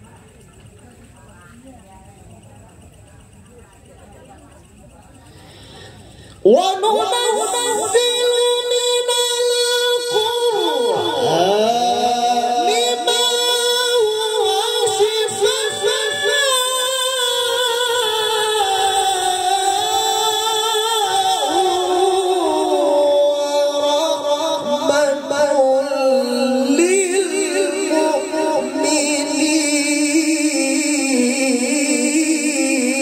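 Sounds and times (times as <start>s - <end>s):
man chanting into a microphone: 6.4s - 33.0s.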